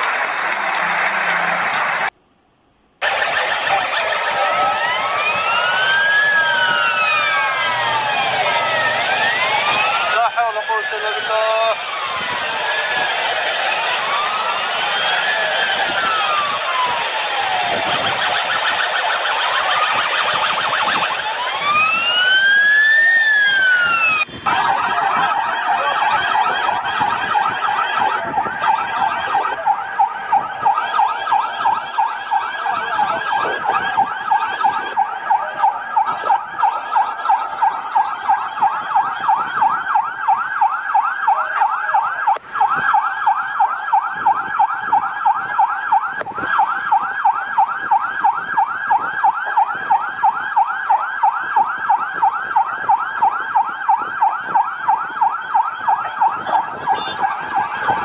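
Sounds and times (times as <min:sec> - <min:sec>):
emergency siren yelping: 0:03.0 - 0:58.0.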